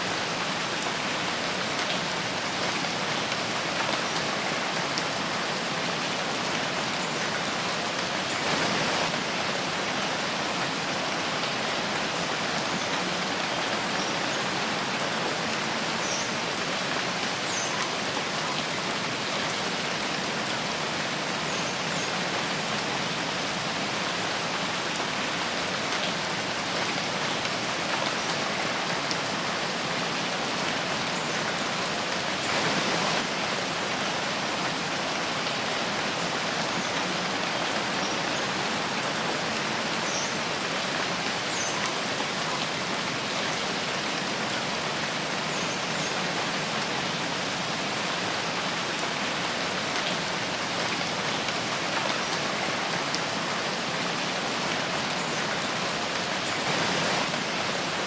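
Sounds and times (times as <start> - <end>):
rain on leaves and ground: 0.0 - 58.0.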